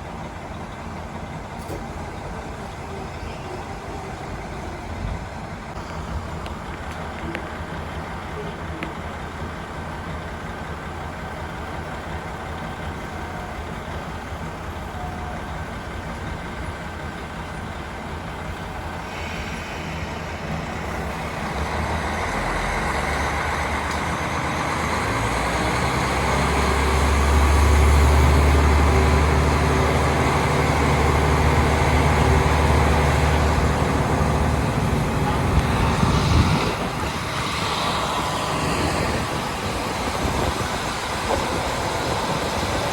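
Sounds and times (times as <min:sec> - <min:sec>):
railcar diesel engine drone: 0:00.0 - 0:42.9.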